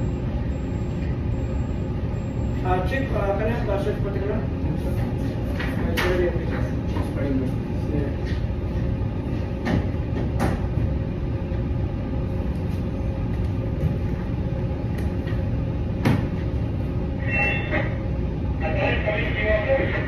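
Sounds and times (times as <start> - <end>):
low machinery rumble: 0.0 - 20.0.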